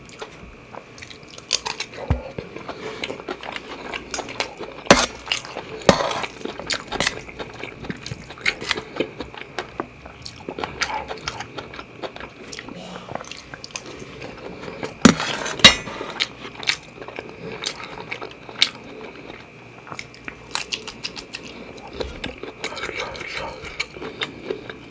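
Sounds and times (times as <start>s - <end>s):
chewing food: 0.0s - 24.9s
faint high whine: 0.0s - 24.9s.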